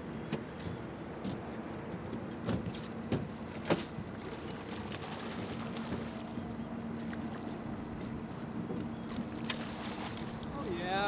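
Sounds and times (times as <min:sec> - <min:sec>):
outboard motor humming: 0:00.0 - 0:11.0
water noise: 0:00.0 - 0:11.0
wind: 0:00.0 - 0:11.0.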